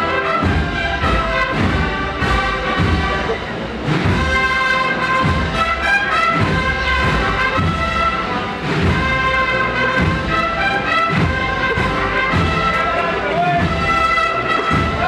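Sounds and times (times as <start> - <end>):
brass melody: 0.0 - 15.0
steady drum beat: 0.0 - 15.0.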